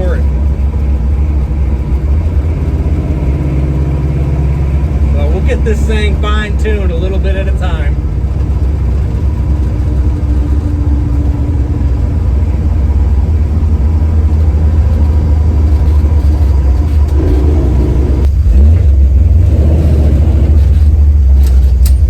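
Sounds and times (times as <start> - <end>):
car engine low drone: 0.0 - 22.0.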